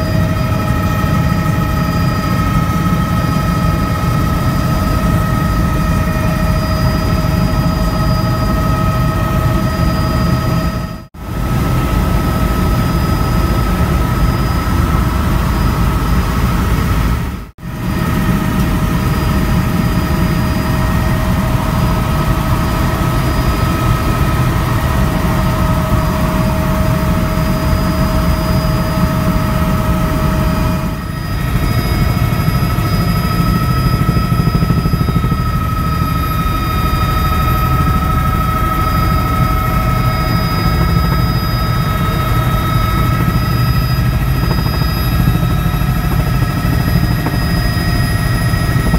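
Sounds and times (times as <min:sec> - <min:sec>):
helicopter rotor rumble: 0:00.0 - 0:48.9
turboshaft engine whine: 0:00.0 - 0:48.9.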